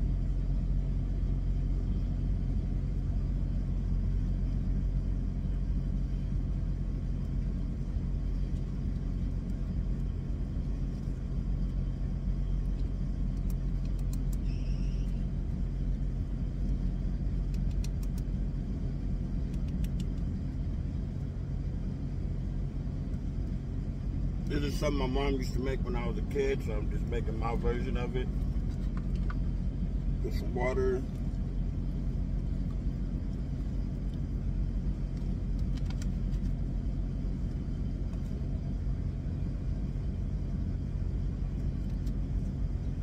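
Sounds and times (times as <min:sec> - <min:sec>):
truck engine idling: 0:00.0 - 0:43.0.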